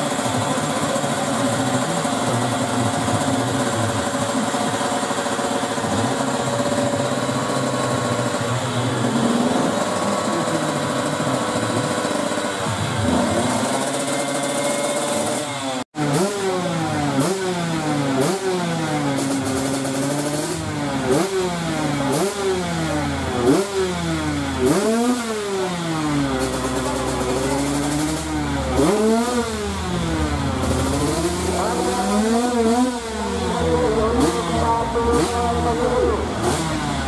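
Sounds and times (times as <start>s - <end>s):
motocross bike engine revving: 0.0s - 37.0s.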